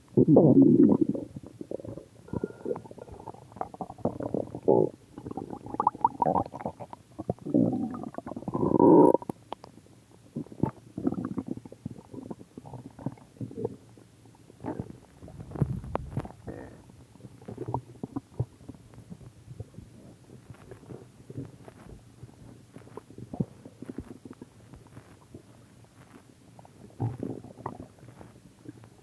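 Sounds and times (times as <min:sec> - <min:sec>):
stomach growling and gurgling: 0:00.0 - 0:29.0.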